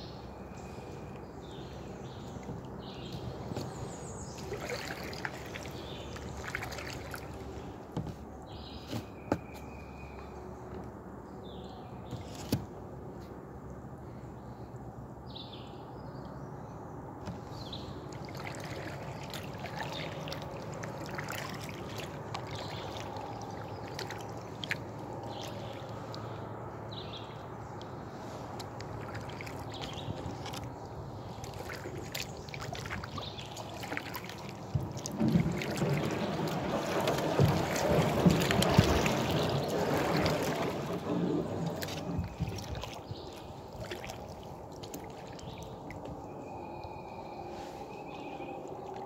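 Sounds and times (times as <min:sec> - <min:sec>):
paddle splashing and dripping water: 0:00.6 - 0:10.2, 0:17.2 - 0:46.4, 0:48.1 - 0:49.0.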